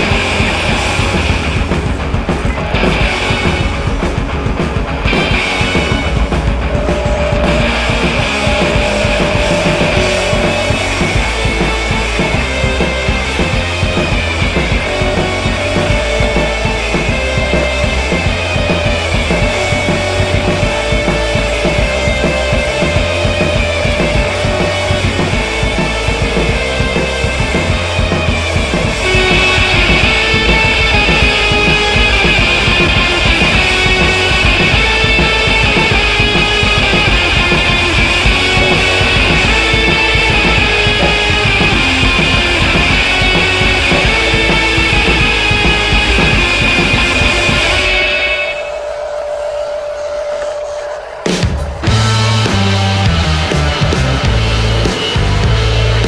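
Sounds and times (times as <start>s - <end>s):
rock music with drums and bass: 0.0s - 50.1s, 51.0s - 56.0s.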